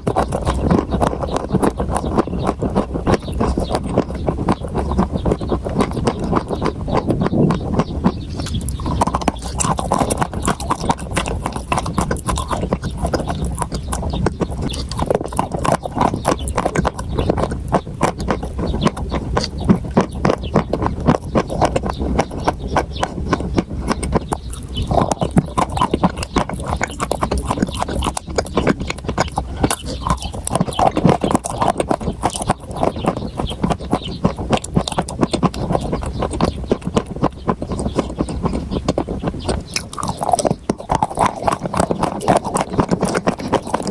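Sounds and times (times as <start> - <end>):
food crunching being chewed: 0.0 - 43.9.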